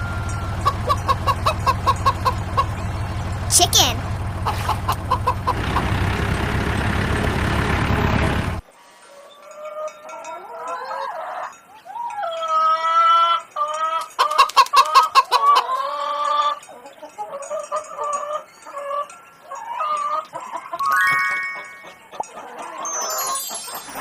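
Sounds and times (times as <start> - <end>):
hens clucking: 0.0 - 6.2, 8.9 - 24.0.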